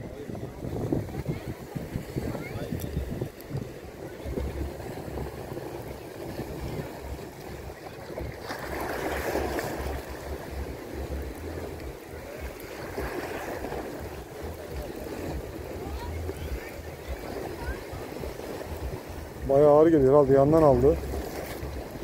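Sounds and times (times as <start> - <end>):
waves washing on beach: 0.0 - 22.0
wind buffeting microphone: 0.0 - 22.0.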